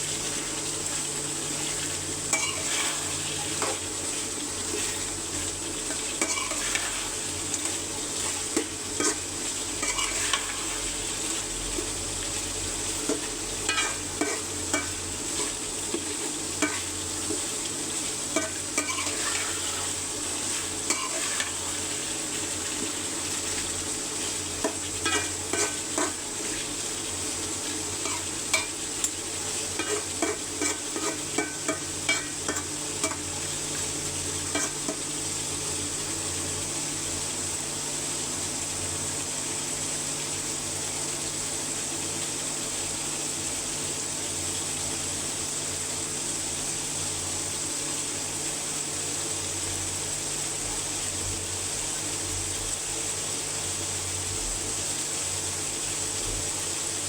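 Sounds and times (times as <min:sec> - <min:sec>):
curry sizzling in a pot: 0:00.0 - 0:57.0.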